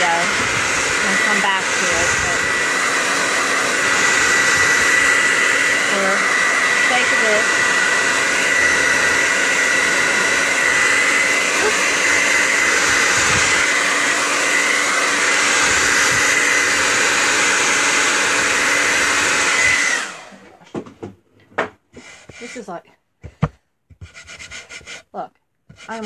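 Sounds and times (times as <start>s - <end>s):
hair dryer blowing: 0.0s - 20.8s, 22.0s - 23.5s, 25.7s - 26.0s.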